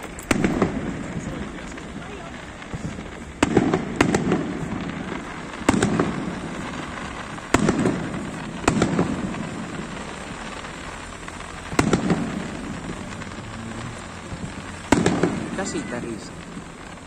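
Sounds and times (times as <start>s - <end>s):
firework bangs: 0.0s - 17.0s
low rumbling echo: 0.0s - 17.0s.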